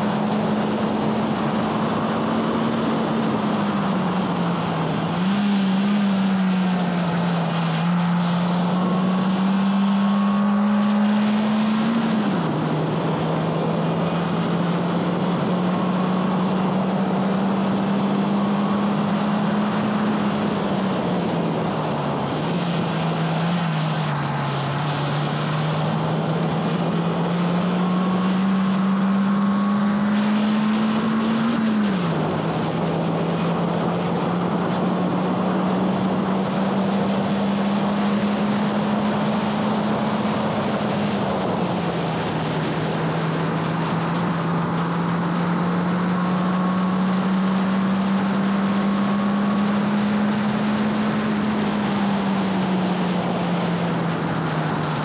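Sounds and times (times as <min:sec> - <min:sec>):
car engine running hard: 0:00.0 - 0:55.0
wind and tyre noise: 0:00.0 - 0:55.0.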